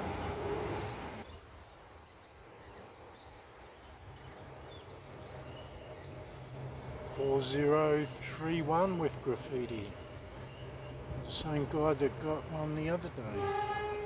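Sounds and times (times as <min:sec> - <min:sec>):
train passing with whine: 0:00.0 - 0:01.2, 0:02.8 - 0:14.0
faint bird chirps: 0:01.2 - 0:14.0.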